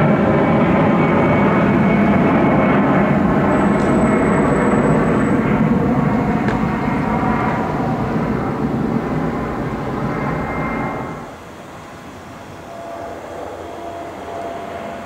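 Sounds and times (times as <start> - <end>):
airliner engine rushing: 0.0 - 15.0.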